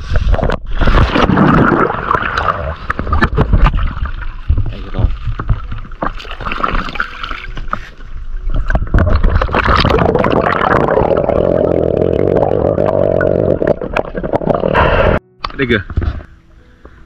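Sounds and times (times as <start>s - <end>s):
muffled underwater rush: 0.0s - 15.2s
water splashing and gurgling: 0.0s - 15.2s.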